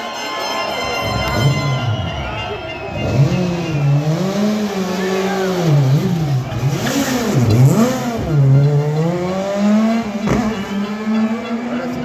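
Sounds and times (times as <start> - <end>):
rally car engine revving: 1.0 - 12.0.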